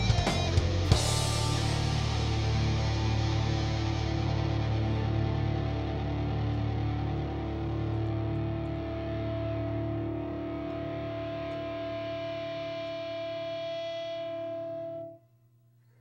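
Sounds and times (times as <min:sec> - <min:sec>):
distorted electric guitar chord: 0:00.0 - 0:15.2.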